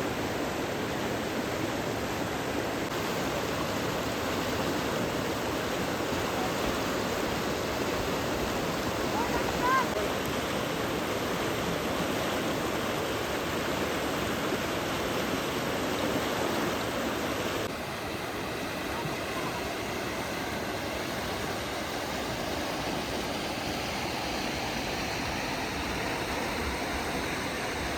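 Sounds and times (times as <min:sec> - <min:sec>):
rushing floodwater: 0:00.0 - 0:27.9.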